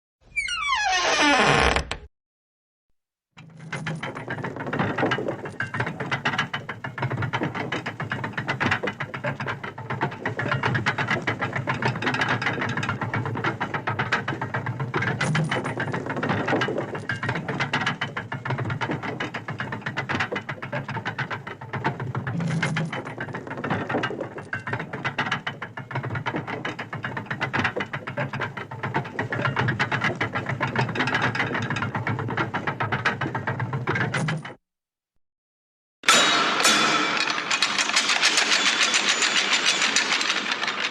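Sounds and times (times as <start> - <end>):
door mechanism ratcheting rattle: 3.4 - 34.6, 36.6 - 40.9.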